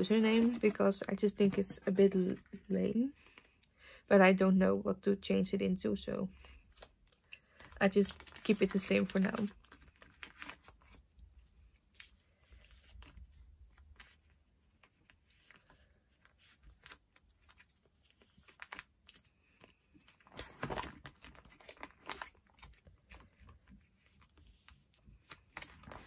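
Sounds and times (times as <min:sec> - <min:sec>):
binder pages rustling: 0:00.0 - 0:03.6, 0:06.4 - 0:26.0
plastic sleeves crinkling and clicking: 0:00.0 - 0:03.7, 0:06.4 - 0:11.2, 0:11.8 - 0:26.0.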